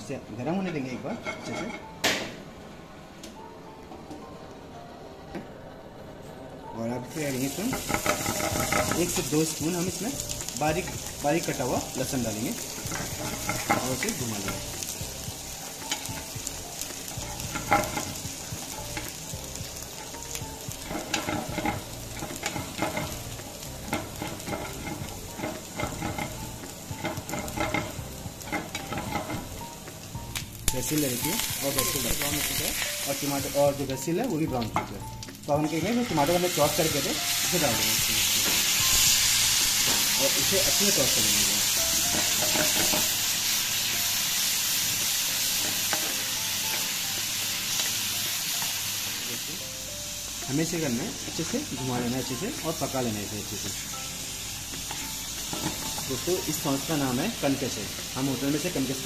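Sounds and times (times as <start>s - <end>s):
garlic sizzling in hot oil: 6.8s - 59.0s.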